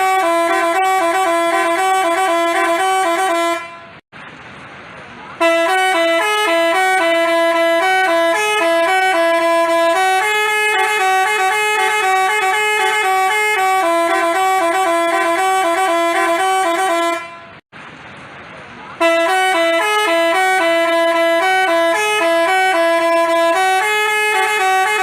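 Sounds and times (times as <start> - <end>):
bus horn playing melody: 0.0 - 4.0, 5.4 - 17.6, 19.0 - 25.0.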